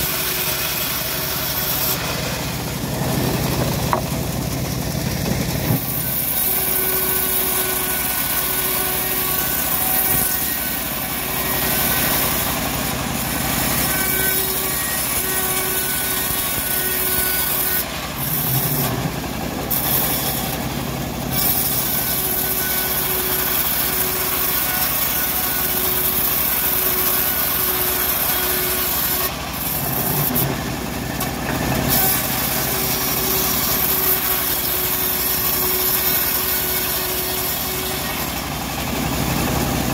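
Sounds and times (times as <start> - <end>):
bandsaw mill ripping a log: 0.0 - 39.9.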